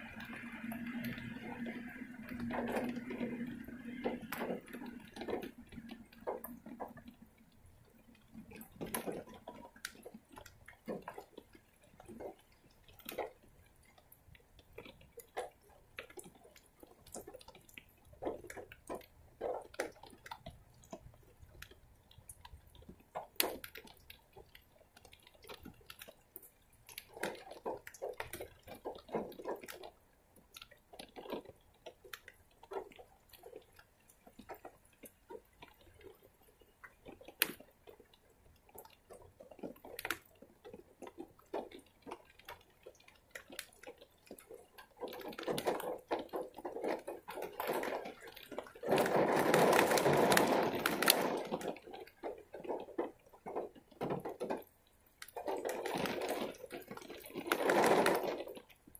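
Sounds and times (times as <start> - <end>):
rainwater dripping: 0.0 - 58.9.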